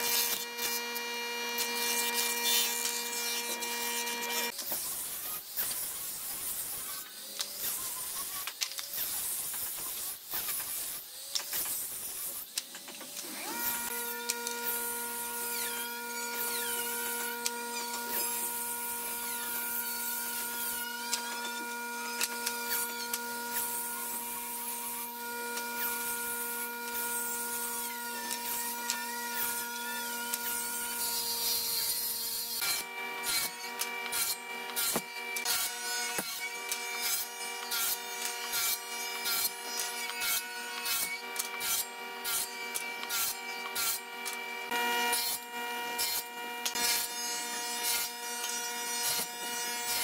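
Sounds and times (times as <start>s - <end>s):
angle grinder sanding wood: 0.0s - 50.0s.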